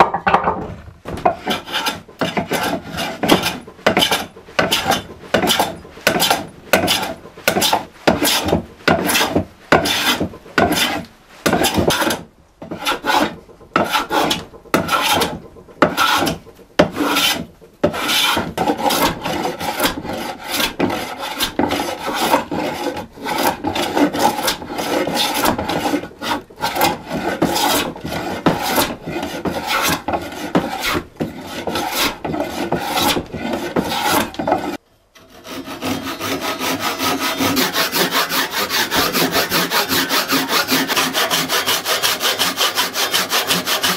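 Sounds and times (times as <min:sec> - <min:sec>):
hand tool scraping wood: 0:00.0 - 0:43.9.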